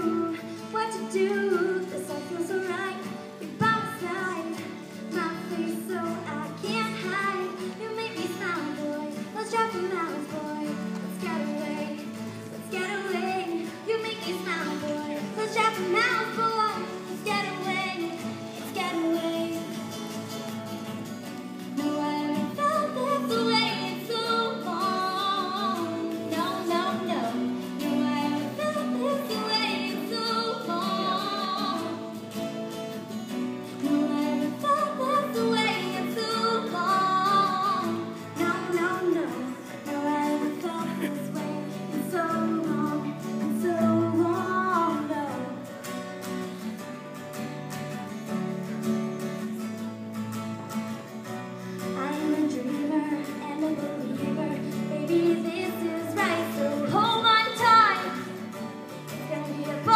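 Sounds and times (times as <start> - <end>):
woman singing: 0.0 - 46.4, 51.8 - 59.9
guitar accompaniment: 0.0 - 59.9.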